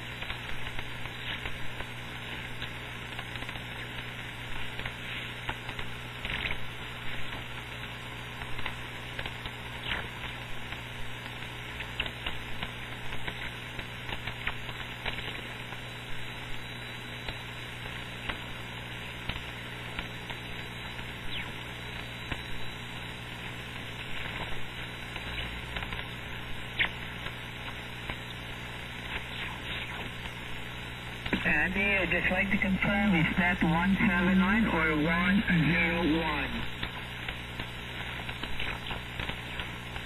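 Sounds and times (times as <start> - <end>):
low steady hum: 0.0 - 40.0
radio static hiss: 0.0 - 40.0
static crackles: 0.0 - 40.0.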